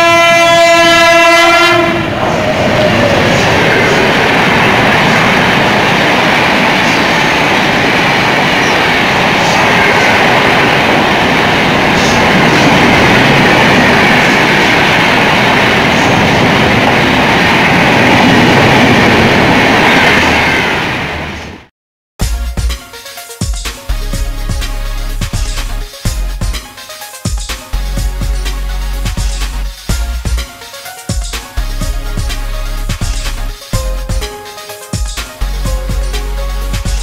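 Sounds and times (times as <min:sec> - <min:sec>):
train wheels rushing on rail: 0:00.0 - 0:21.7, 0:27.3 - 0:37.0.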